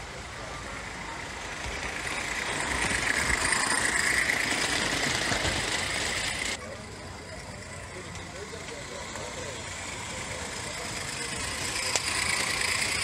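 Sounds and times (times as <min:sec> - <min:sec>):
model steam train rolling past: 0:00.0 - 0:13.0.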